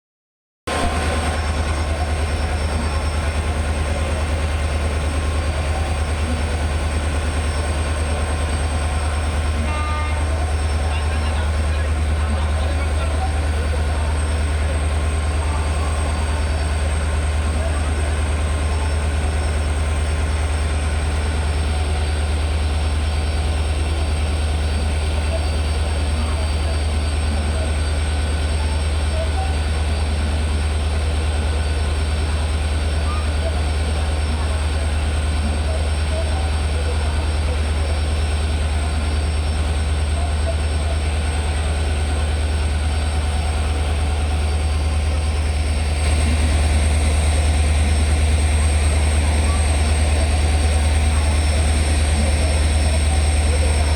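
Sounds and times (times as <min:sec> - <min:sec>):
locomotive diesel engine idling: 0:00.7 - 0:53.9.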